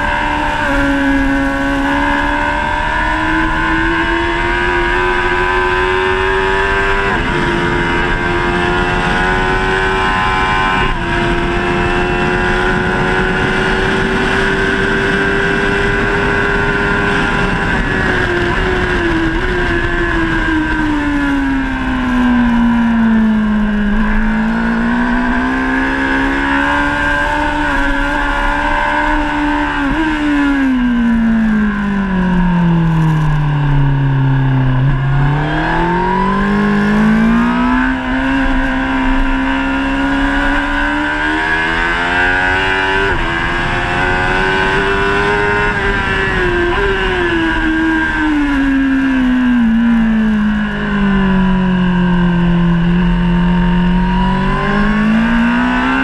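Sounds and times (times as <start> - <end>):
motorcycle engine revving: 0.0 - 56.0
wind rush over microphone: 0.0 - 56.0.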